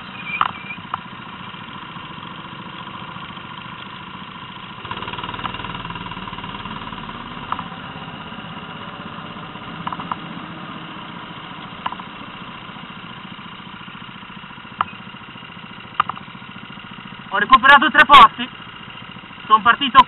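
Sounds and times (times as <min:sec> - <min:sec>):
go-kart engines running: 0:00.0 - 0:20.0.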